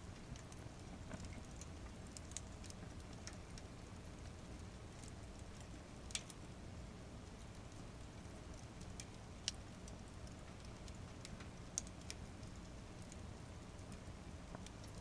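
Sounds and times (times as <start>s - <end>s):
campfire burning: 0.0s - 15.0s
fire crackling and popping: 0.0s - 15.0s.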